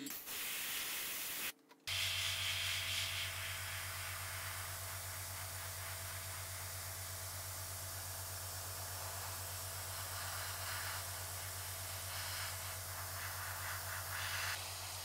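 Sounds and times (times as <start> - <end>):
airbrush hiss: 0.0 - 15.0.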